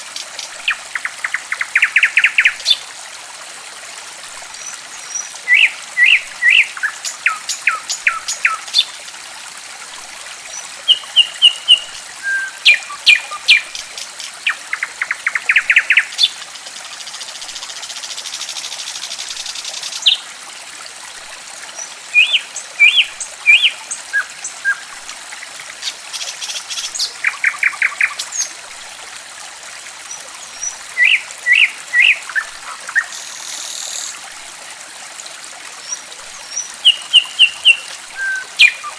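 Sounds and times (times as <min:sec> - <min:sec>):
running water trickling: 0:00.0 - 0:38.9.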